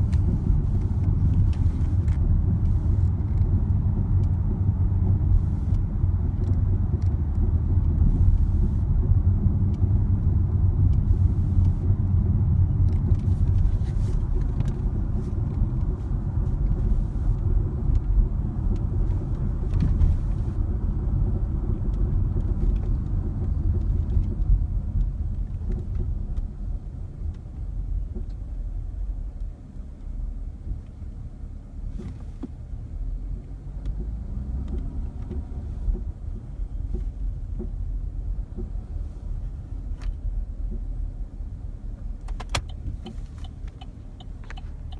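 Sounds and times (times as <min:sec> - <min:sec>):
car engine rumbling: 0:00.0 - 0:44.9.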